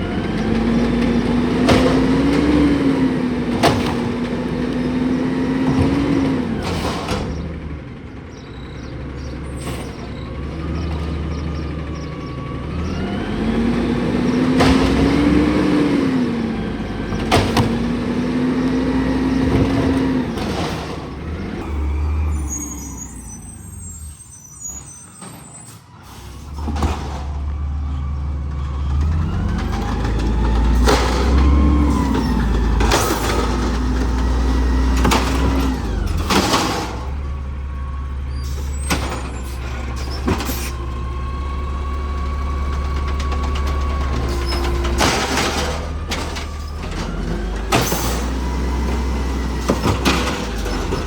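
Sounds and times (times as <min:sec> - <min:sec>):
garbage truck engine revving: 0:00.0 - 0:51.0.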